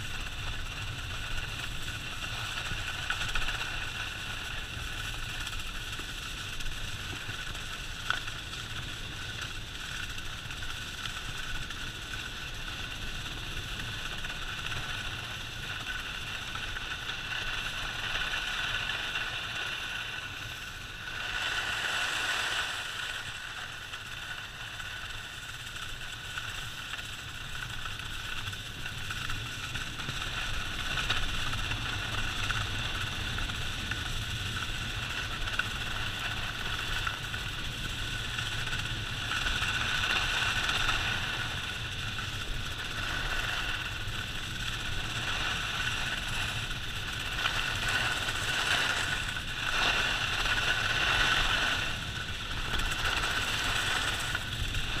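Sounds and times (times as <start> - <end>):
skis scraping over packed snow: 0.0 - 55.0
wind rumbling on microphone: 0.0 - 55.0.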